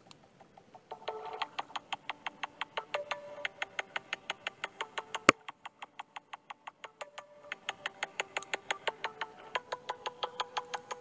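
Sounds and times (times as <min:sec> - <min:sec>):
fast percussive clicks: 0:01.0 - 0:11.0.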